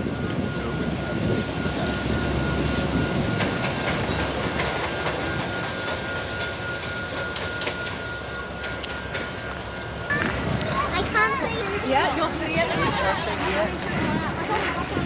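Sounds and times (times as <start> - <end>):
train wheels clicking on track: 1.7 - 15.0.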